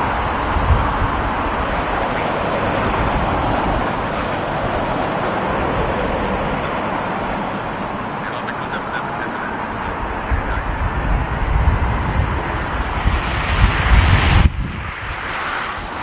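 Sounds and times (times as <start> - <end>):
jet engine rumble: 0.0 - 16.0
storm wind buffeting microphone: 0.0 - 16.0.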